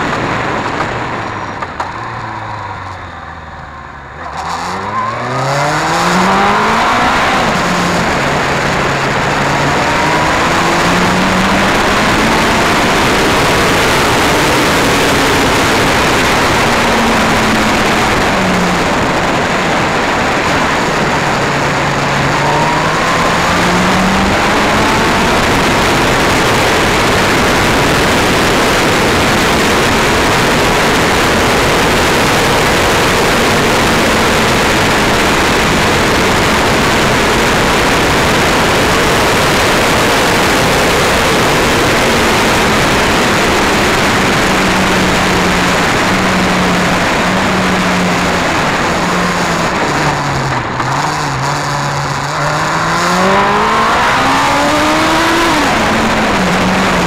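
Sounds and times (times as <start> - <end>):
wind rush on microphone: 0.0 - 2.6, 4.9 - 57.0
motorcycle engine revving: 0.0 - 57.0.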